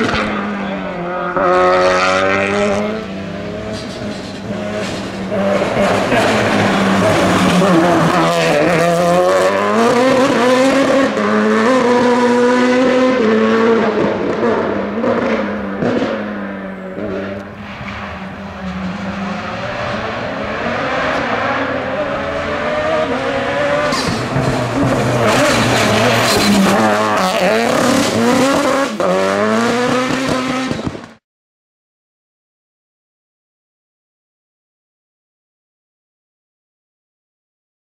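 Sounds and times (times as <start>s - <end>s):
race car engine accelerating past: 0.0s - 31.0s.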